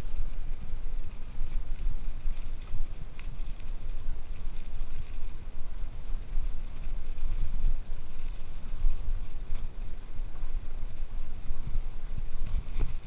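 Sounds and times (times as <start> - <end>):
bike rattling over stones: 0.0 - 13.0
wind buffeting microphone: 0.0 - 13.0.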